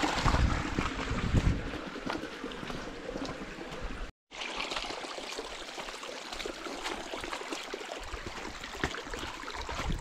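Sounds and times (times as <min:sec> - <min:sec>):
creek water trickling: 0:00.0 - 0:10.0.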